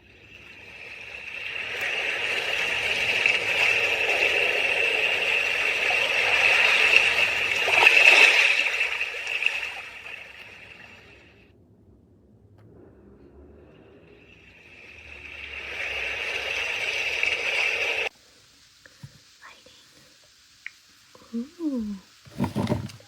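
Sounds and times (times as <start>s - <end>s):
flowing water from small speaker: 0.0s - 11.5s, 14.3s - 23.0s.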